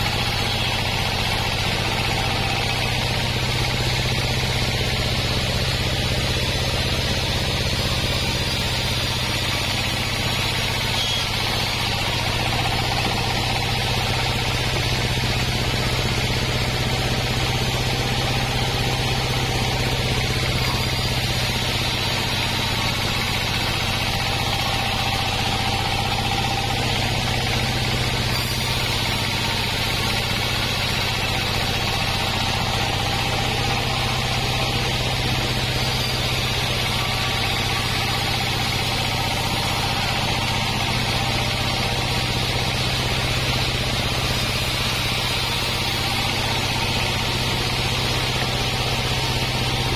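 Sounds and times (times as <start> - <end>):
bandsaw mill droning: 0.0 - 49.9.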